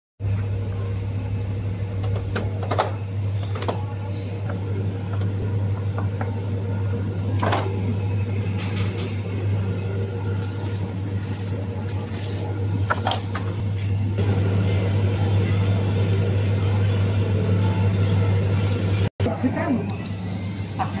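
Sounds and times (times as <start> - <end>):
steady low hum: 0.2 - 21.0.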